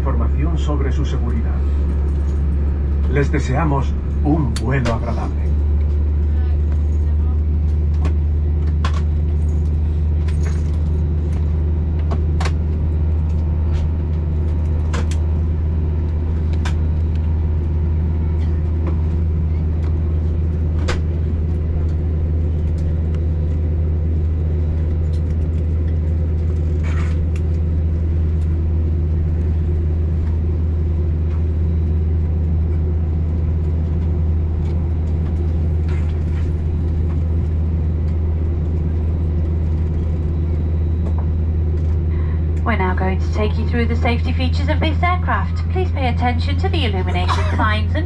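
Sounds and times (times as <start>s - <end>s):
airplane cabin drone: 0.0s - 48.0s.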